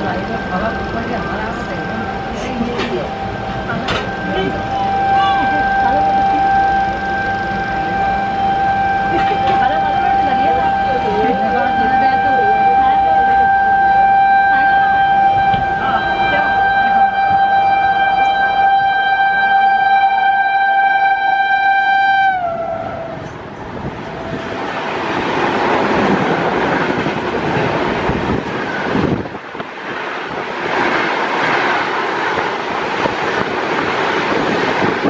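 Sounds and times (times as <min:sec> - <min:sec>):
train wheels rumbling on rail: 0:00.0 - 0:35.0
locomotive horn blast: 0:00.8 - 0:29.3.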